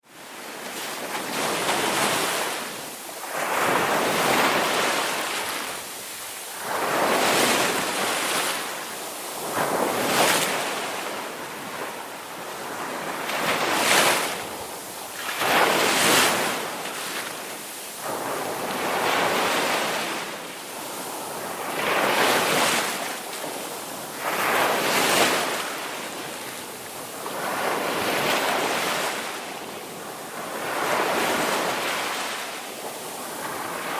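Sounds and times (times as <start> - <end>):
ocean waves breaking on beach: 0.0 - 33.9.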